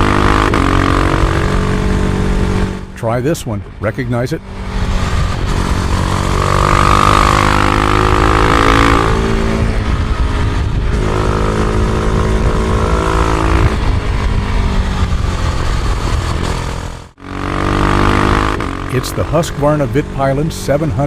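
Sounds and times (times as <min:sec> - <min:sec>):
motorcycle engine running: 0:00.0 - 0:03.0, 0:04.4 - 0:21.0.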